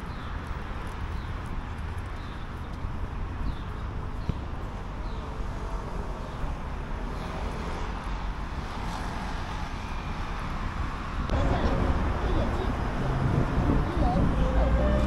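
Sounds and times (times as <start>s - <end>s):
vehicle running rumble: 0.0s - 15.0s.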